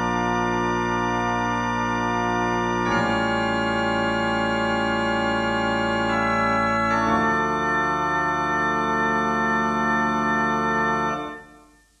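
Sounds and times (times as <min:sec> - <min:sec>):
sustained organ chords: 0:00.0 - 0:12.0.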